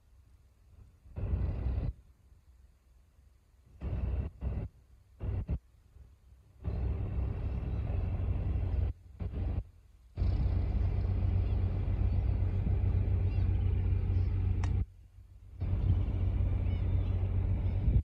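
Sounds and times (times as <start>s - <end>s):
boat engine rumble: 0.1s - 18.0s.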